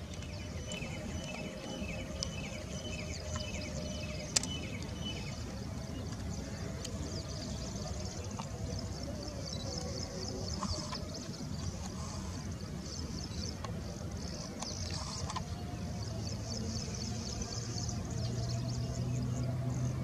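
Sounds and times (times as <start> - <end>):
distant jet engines humming: 0.0 - 20.0
small birds chirping: 0.0 - 20.0.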